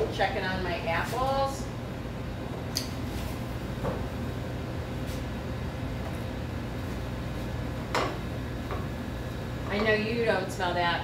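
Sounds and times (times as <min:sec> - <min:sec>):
kitchen ventilation hum: 0:00.0 - 0:11.0.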